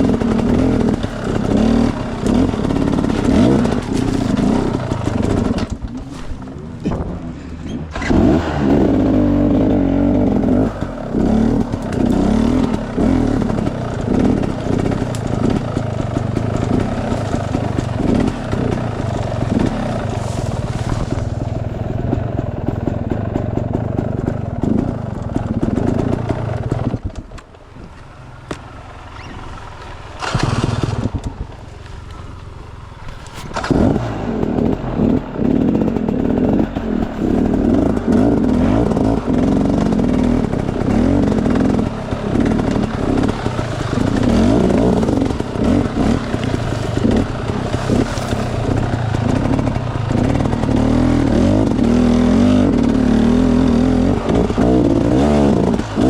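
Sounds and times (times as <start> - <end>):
dirt bike engine revving: 0.0 - 27.1, 28.4 - 56.0.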